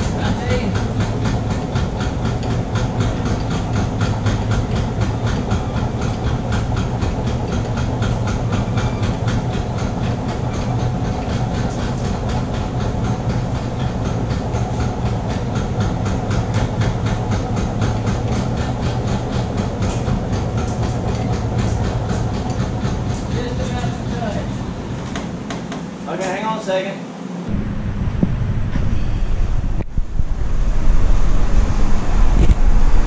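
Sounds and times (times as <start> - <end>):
electric hoist motor hum: 0.0 - 33.0.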